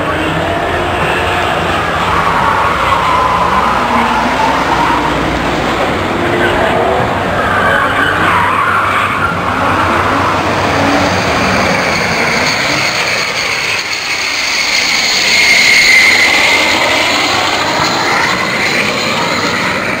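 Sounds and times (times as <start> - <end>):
jet engine whining: 0.0 - 20.0.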